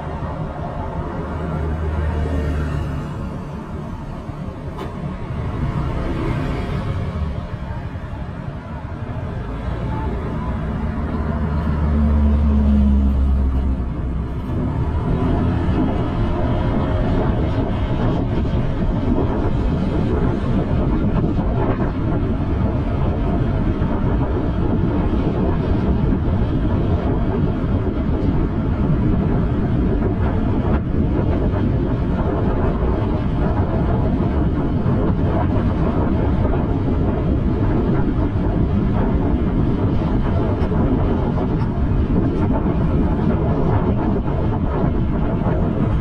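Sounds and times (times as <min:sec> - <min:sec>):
road rumble: 0:00.0 - 0:46.0
wind rush on microphone: 0:00.0 - 0:46.0.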